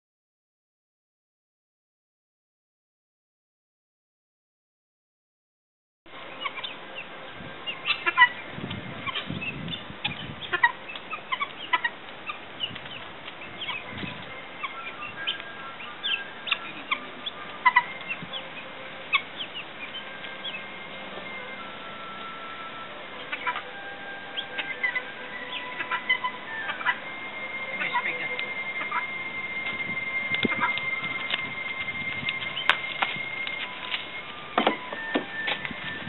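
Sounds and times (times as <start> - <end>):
low rumbles: 6.1 - 36.0
guinea fowl calling: 6.3 - 35.6.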